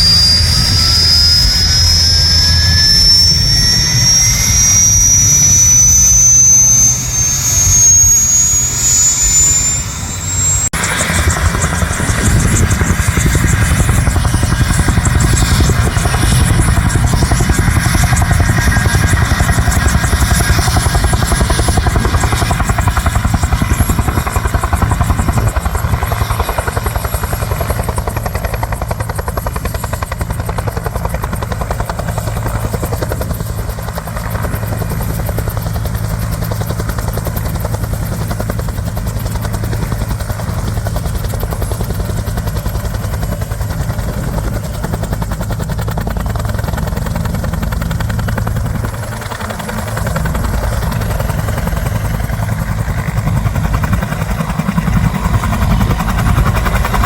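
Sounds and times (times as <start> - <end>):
helicopter rotor chop: 0.0 - 57.0.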